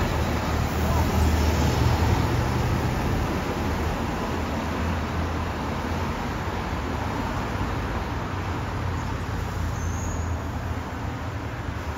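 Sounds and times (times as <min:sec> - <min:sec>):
road traffic: 0:00.0 - 0:11.9.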